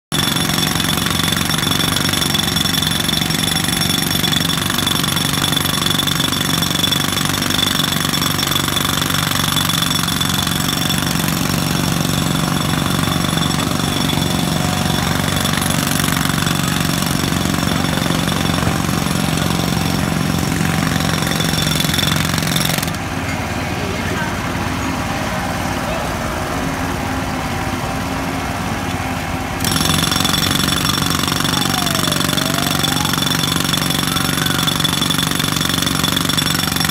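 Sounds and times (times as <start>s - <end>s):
jackhammer hammering: 0.1s - 23.4s, 29.6s - 36.9s.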